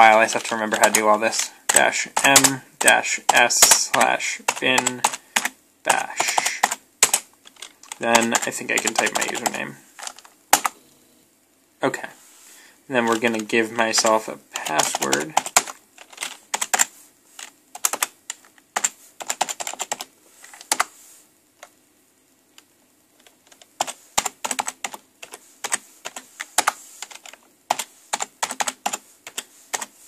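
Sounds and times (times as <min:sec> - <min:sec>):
computer keyboard typing: 0:00.0 - 0:10.8, 0:13.1 - 0:20.9, 0:23.2 - 0:29.9.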